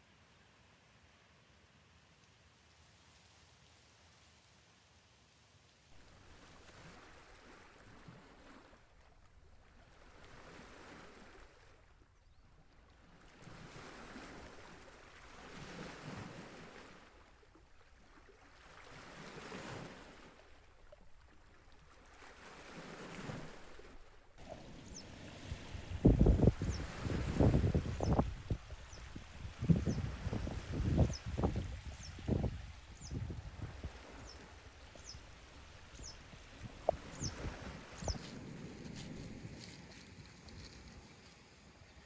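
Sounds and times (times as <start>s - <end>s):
small waves washing ashore: 2.3s - 42.0s.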